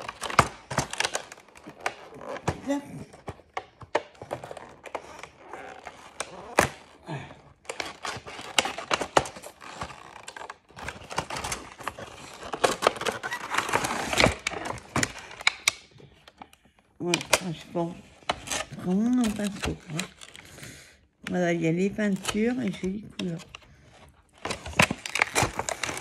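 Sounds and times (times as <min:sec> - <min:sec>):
packaging clicks and rustling: 0:00.0 - 0:26.0.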